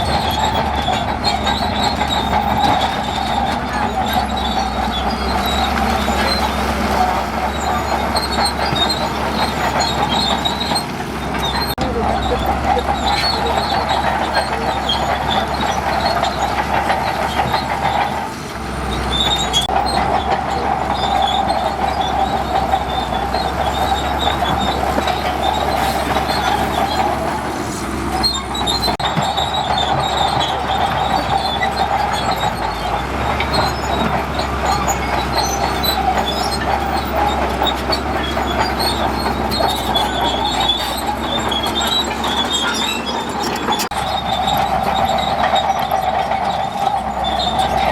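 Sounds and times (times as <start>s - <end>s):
bulldozer engine running: 0.0s - 47.9s
steel tracks squealing and clanking: 0.0s - 47.9s.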